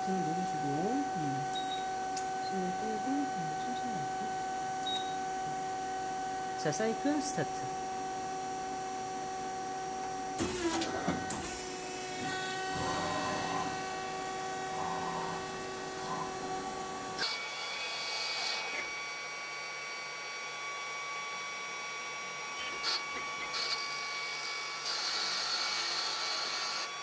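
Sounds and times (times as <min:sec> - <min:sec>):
lathe motors whining: 0:00.0 - 0:27.0.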